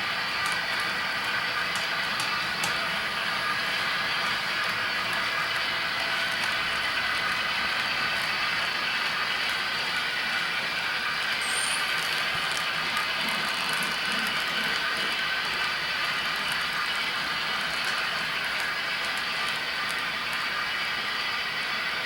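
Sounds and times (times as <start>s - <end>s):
model train running: 0.0s - 22.0s.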